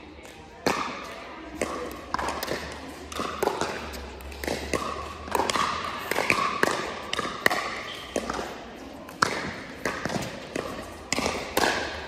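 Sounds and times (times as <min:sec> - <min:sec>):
ball bouncing on hard court: 0:00.2 - 0:12.0
paddles hitting plastic ball: 0:00.2 - 0:12.0.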